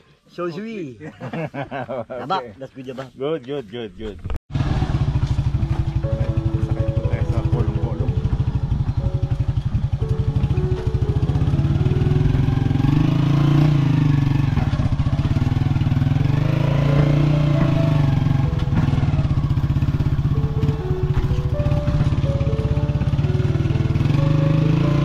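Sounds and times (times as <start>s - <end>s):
small engine running: 4.5s - 25.0s.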